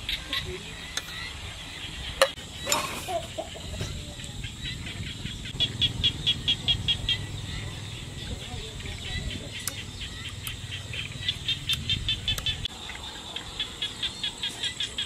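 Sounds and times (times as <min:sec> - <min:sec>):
birds chirping: 0:00.0 - 0:15.0
low bird clucks: 0:00.0 - 0:15.0.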